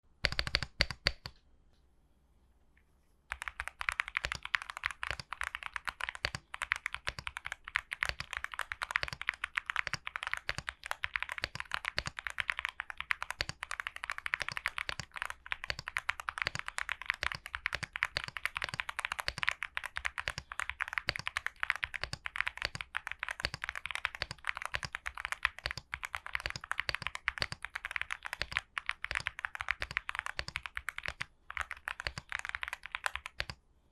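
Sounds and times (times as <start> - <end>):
fast mechanical keyboard typing: 0.2 - 1.3, 3.3 - 33.6.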